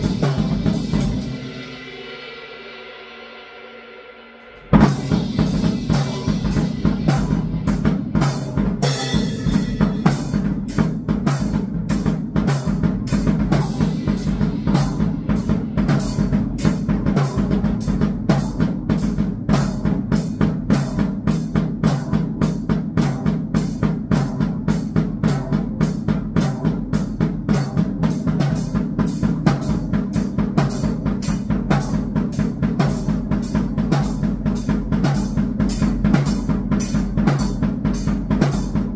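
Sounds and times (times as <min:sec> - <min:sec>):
drum kit driving beat: 0:00.0 - 0:02.7, 0:04.5 - 0:38.9.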